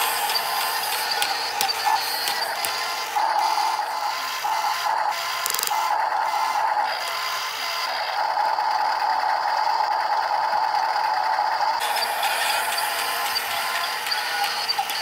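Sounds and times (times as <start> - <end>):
high electric motor whine: 0.0 - 15.0.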